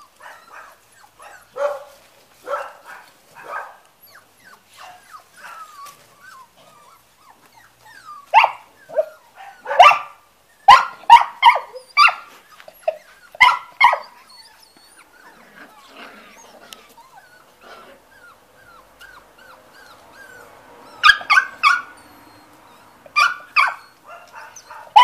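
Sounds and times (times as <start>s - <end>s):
puppies whining: 0.0s - 1.9s, 3.0s - 25.0s
puppies yipping and barking: 0.0s - 25.0s.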